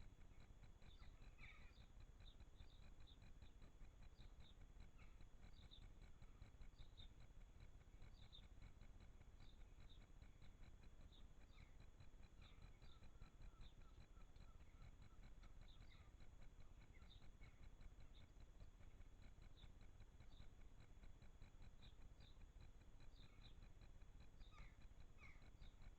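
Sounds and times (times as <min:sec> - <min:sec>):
faint bird chirps: 0:00.0 - 0:25.9
faint steady ticking: 0:00.0 - 0:25.9.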